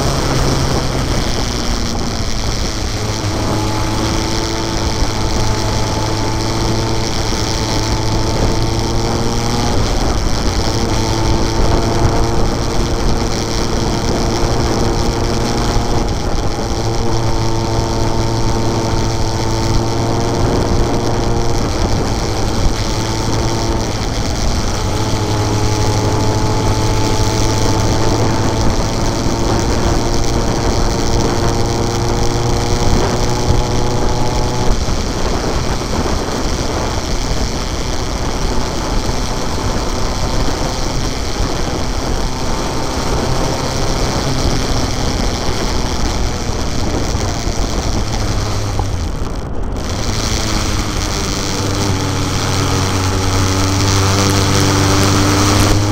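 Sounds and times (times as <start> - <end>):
motorcycle engine cruising: 0.0 - 55.9
road noise: 0.0 - 55.9
wind noise on microphone: 0.0 - 55.9.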